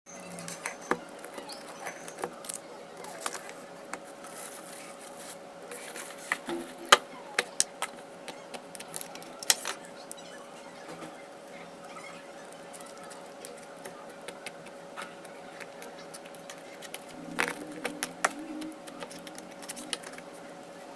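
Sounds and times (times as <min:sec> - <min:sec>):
faint steady hum: 0:00.1 - 0:20.9.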